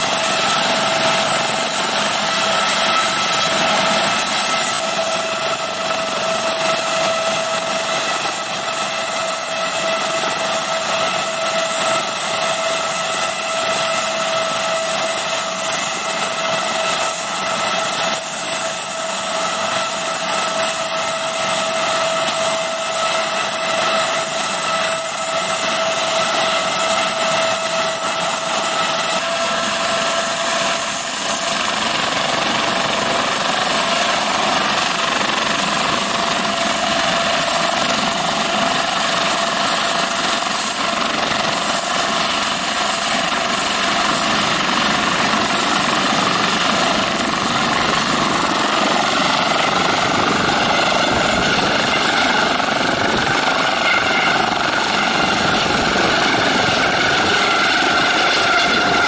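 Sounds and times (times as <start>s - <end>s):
helicopter rotors turning: 0.0s - 59.0s
helicopter turbine whine: 0.0s - 59.0s.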